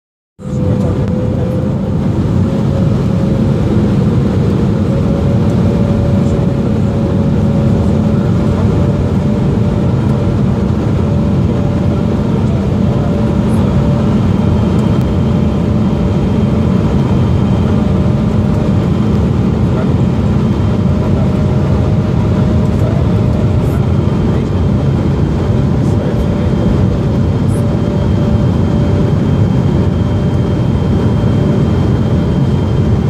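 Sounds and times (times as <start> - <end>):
jet engines and airflow roaring: 0.4 - 33.0.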